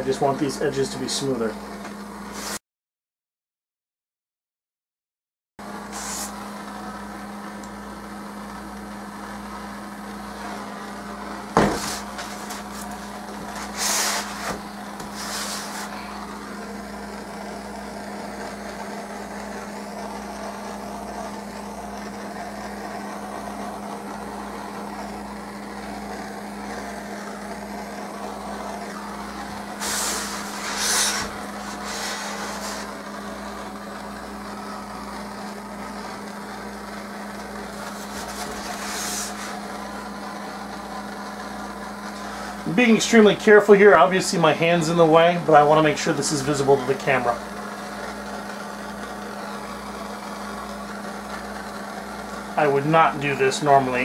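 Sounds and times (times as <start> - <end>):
torch burning with hiss: 5.7 - 54.0.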